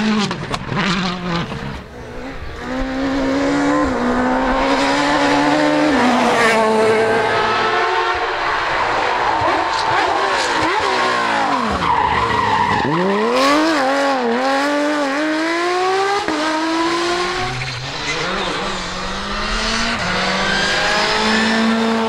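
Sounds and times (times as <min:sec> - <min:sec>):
rally car engine shifting gears: 0:00.0 - 0:22.0.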